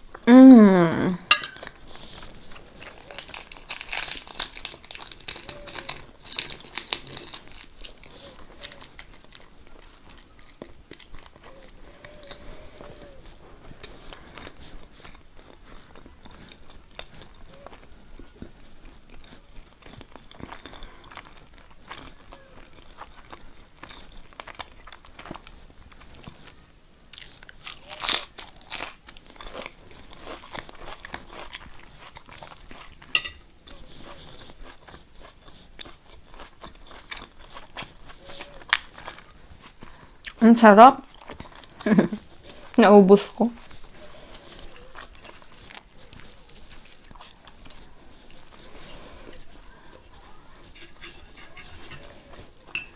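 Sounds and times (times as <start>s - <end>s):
person chewing and eating: 0.0s - 52.9s.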